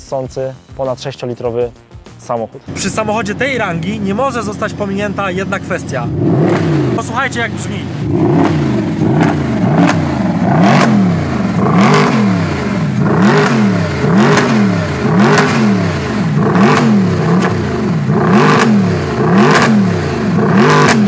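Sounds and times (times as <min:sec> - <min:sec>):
car engine throttle blips: 0:02.6 - 0:21.0
exhaust crack: 0:02.7 - 0:21.0.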